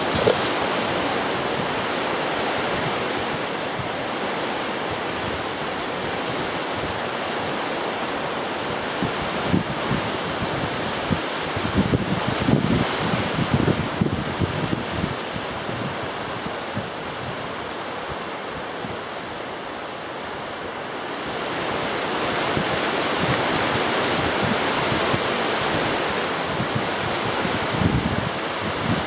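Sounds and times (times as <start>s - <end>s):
strong gusty wind on microphone: 0.0s - 29.0s.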